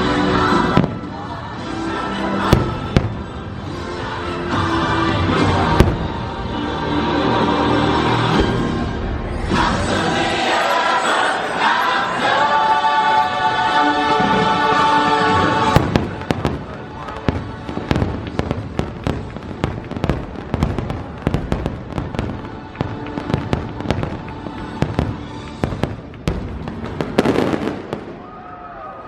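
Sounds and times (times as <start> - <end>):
fireworks bangs and crackling: 0.0 - 11.8, 13.9 - 28.5
choral music: 0.0 - 29.0.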